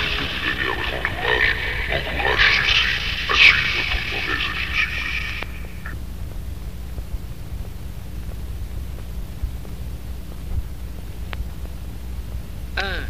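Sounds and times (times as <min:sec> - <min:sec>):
cassette tape hum and hiss: 0:00.0 - 0:13.0.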